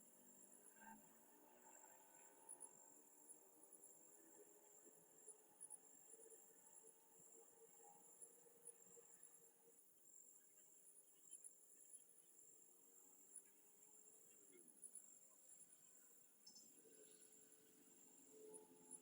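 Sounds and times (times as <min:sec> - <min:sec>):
faint crickets chirping: 0:00.0 - 0:19.0.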